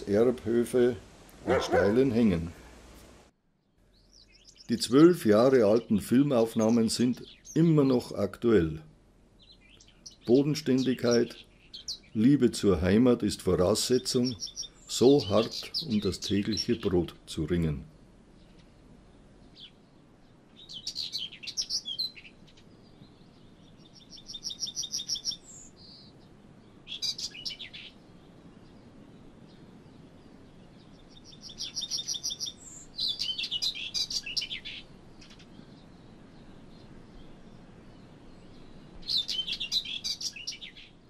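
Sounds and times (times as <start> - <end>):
faint outdoor background: 0.0 - 41.0
songbird singing trills: 3.6 - 8.3, 9.4 - 41.0.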